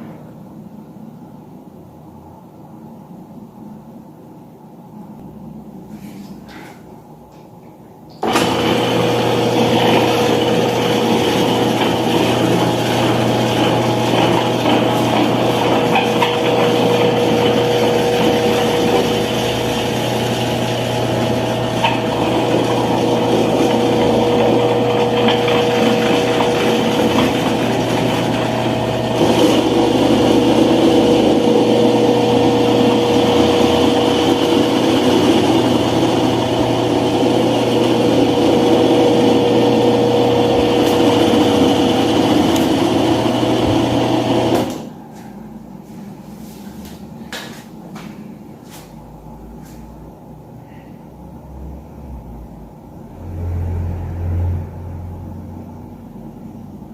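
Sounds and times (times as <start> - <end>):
electric fan running: 0.0 - 56.9.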